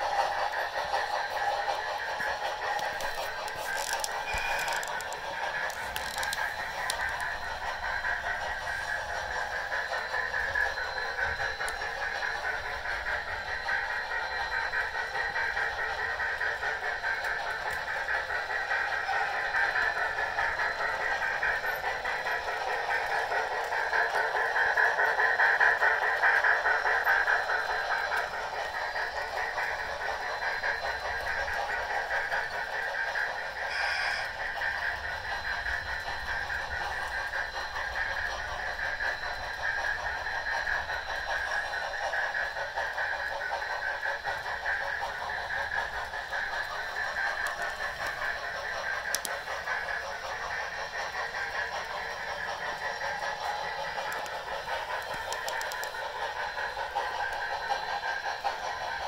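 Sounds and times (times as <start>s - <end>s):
model locomotive steam sounds: 0.0s - 59.0s
wheels clattering on track: 0.0s - 59.0s.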